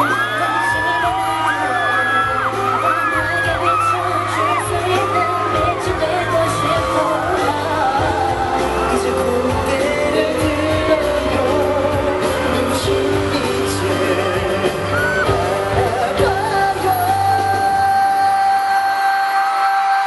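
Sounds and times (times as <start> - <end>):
crowd singing along: 0.0 - 19.9
pop song over sound system: 0.0 - 20.0.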